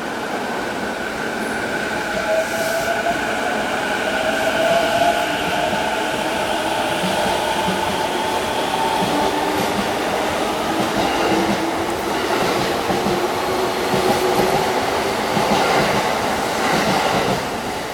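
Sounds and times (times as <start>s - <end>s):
train running noise: 0.0s - 17.9s.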